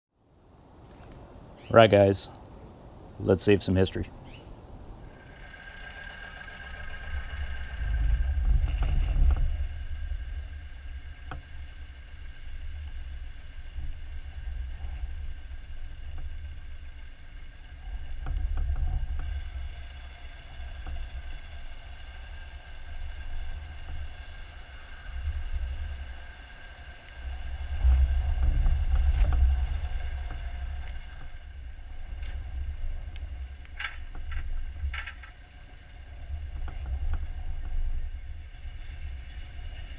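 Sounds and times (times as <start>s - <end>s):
tractor engine deep rumble: 4.6s - 39.9s.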